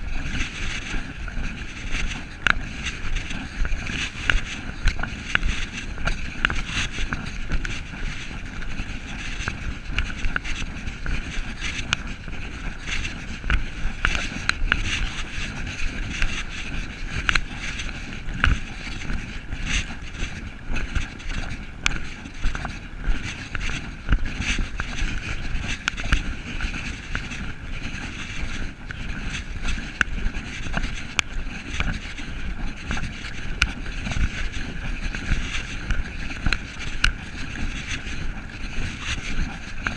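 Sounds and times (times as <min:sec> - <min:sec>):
wind rumble and hiss: 0:00.0 - 0:39.9.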